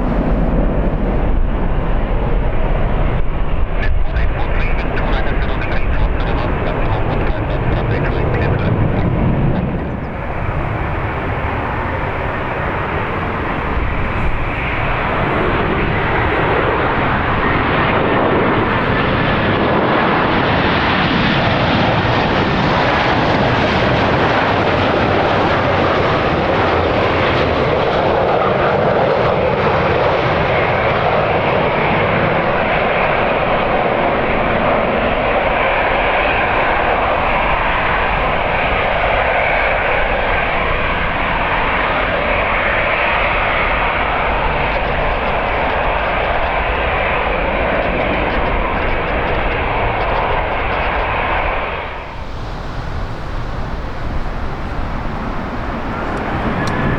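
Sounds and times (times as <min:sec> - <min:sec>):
jet engines roaring: 0:00.0 - 0:56.9.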